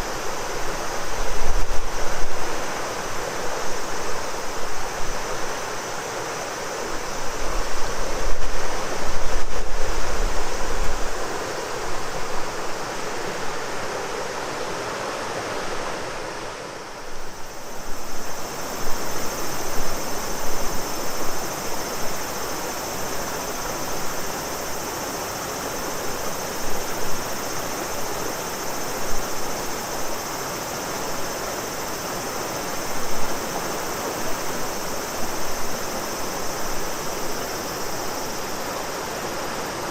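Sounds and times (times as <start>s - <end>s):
cicadas droning: 0.0s - 39.9s
river water rushing: 0.0s - 39.9s.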